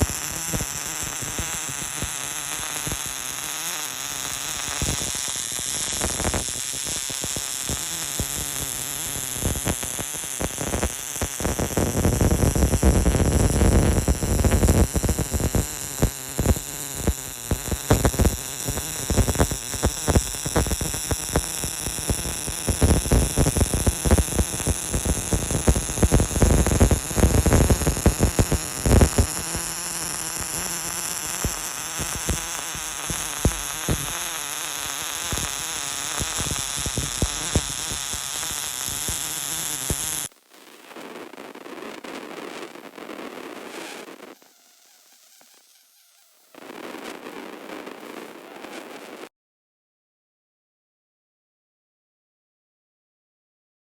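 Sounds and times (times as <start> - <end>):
welding arc crackling: 0.0 - 40.3, 41.2 - 49.3.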